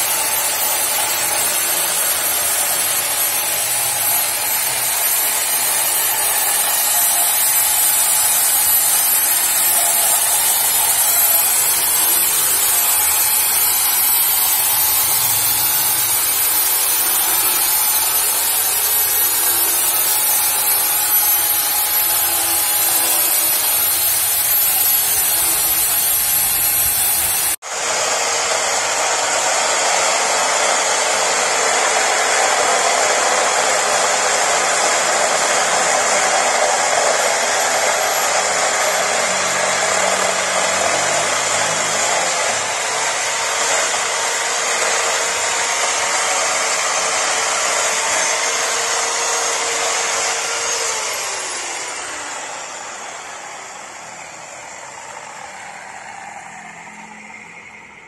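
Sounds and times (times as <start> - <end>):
electric chainsaw cutting wood: 0.0 - 58.0.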